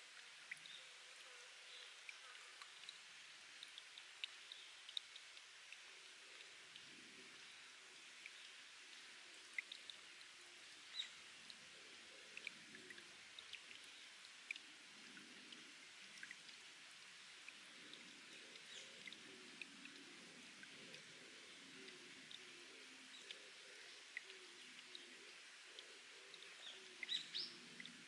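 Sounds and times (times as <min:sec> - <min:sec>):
water trickling from rock: 0:00.0 - 0:28.0.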